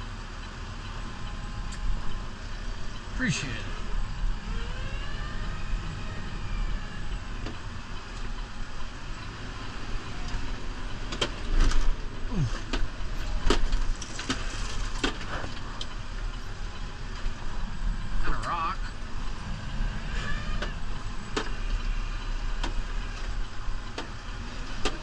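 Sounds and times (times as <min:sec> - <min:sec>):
diesel tractor running: 0:00.0 - 0:25.0.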